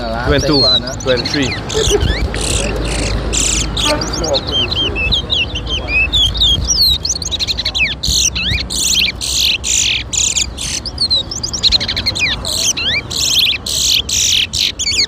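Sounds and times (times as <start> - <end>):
finches singing whistles and trills: 0.0 - 15.0.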